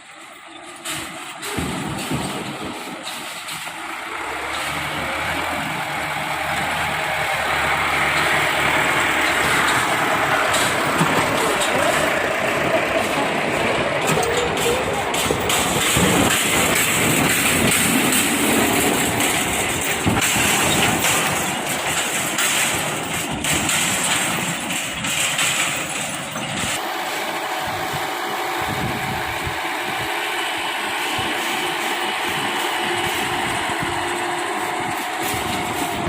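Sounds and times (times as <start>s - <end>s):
tractor engine rattling: 0.0s - 36.0s.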